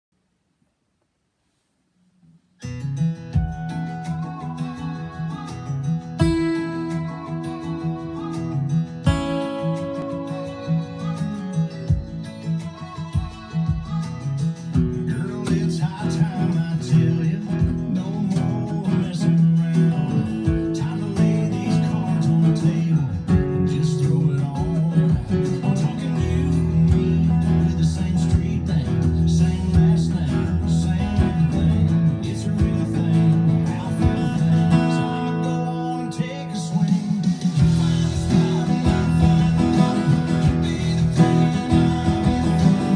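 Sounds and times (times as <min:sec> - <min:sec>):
acoustic guitar strumming: 0:02.2 - 0:42.9.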